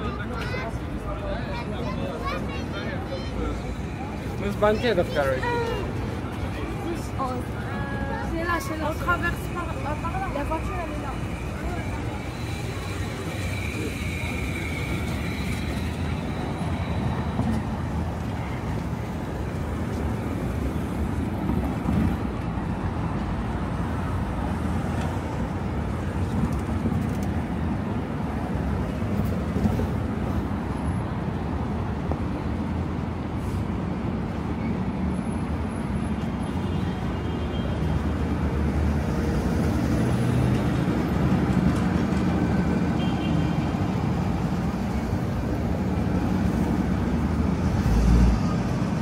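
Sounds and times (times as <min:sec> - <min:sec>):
hum of passing cars: 0:00.0 - 0:49.0.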